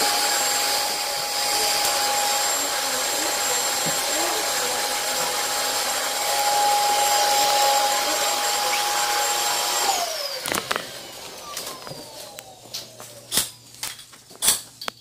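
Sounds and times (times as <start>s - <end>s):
vacuum cleaner motor whine: 0.0s - 13.3s.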